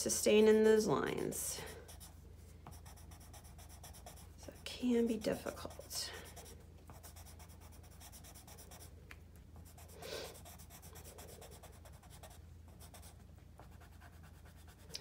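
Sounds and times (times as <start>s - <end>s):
pencil scratching on paper: 1.6s - 8.9s, 9.6s - 15.0s.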